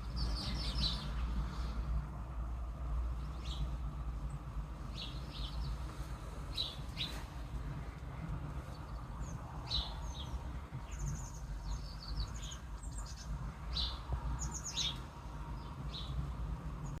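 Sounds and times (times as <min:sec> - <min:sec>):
low background rumble: 0:00.0 - 0:17.0
songbirds chirping: 0:00.0 - 0:17.0.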